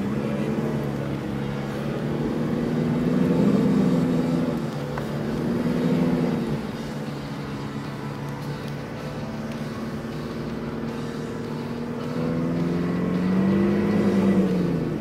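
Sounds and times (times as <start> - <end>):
vehicle engine driving through sand: 0.0 - 15.0.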